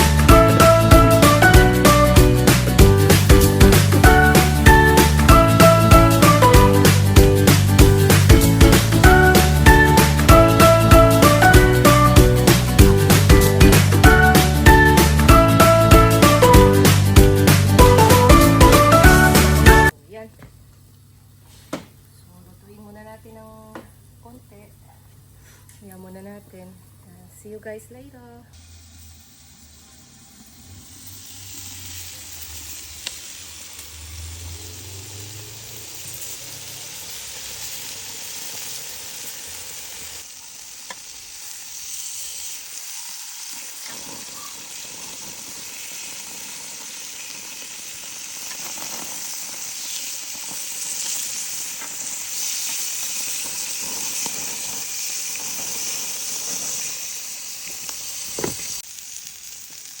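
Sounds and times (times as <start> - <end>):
chicken sizzling: 0.0 - 20.0, 28.5 - 60.0.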